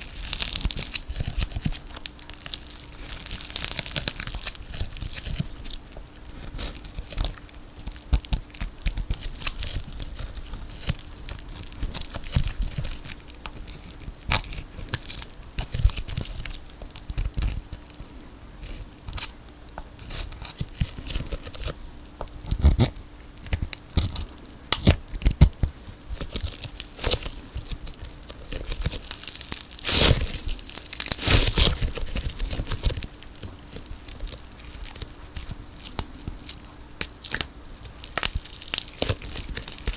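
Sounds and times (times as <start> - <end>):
sticky tape tearing and crinkling: 0.0 - 17.9, 18.6 - 19.4, 20.0 - 39.9.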